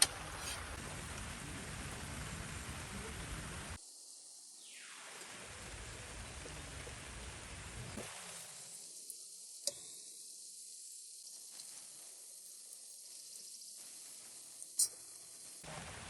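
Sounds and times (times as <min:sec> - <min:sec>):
food sizzling in a pan: 0:01.6 - 0:16.0.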